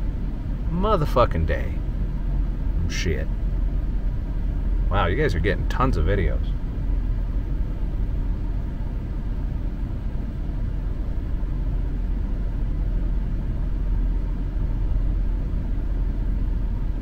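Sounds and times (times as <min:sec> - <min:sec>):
low rumble inside car: 0:00.0 - 0:17.0.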